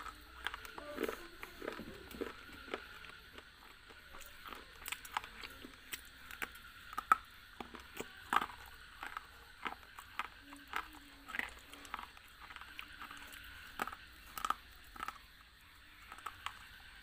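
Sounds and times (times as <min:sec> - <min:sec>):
crunchy biting and chewing: 0:00.0 - 0:17.0.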